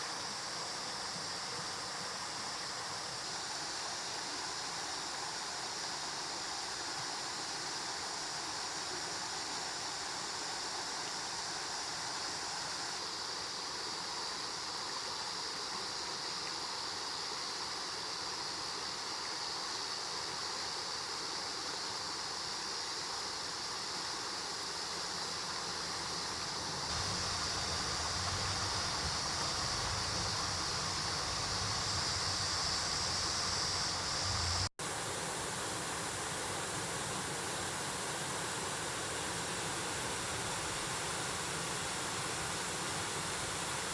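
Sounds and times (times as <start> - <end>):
mountain stream flowing: 0.0 - 43.9.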